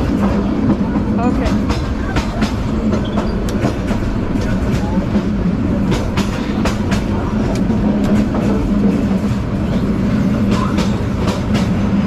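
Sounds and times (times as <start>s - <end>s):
train rumble inside carriage: 0.0s - 12.0s
wheels clicking over rail joints: 0.0s - 12.0s.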